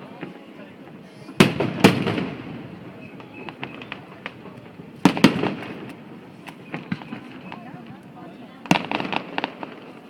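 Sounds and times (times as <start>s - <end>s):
firework rumble: 0.0s - 10.0s.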